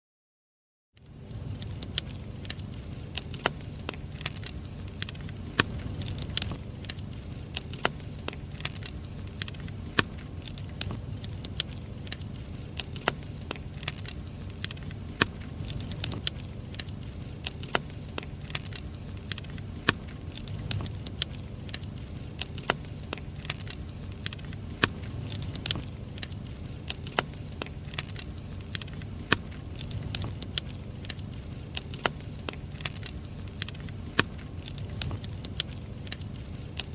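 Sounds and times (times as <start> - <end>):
campfire crackling and popping: 1.0 - 36.9.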